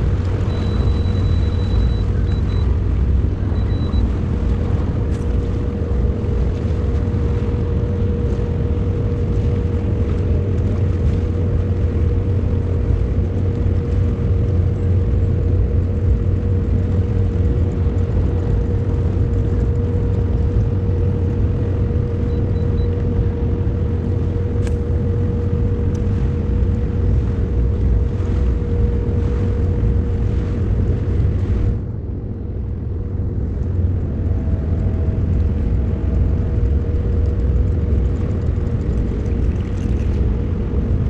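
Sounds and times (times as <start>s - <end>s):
outboard motor running: 0.0s - 41.0s.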